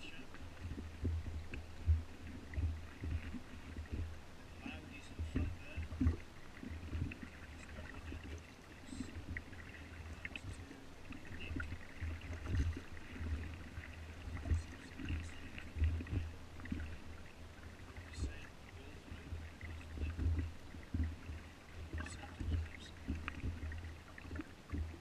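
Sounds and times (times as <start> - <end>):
oars knocking on dinghy hull: 0.0 - 25.0.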